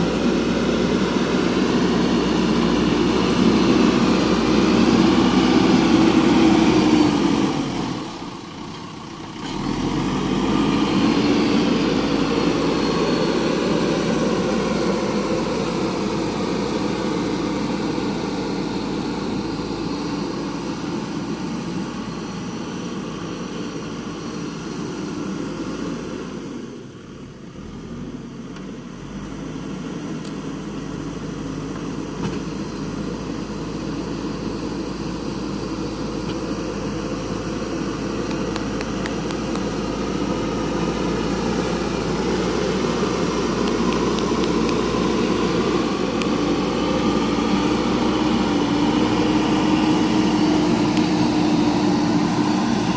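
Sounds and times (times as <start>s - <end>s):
diesel backhoe engine working: 0.0s - 52.9s.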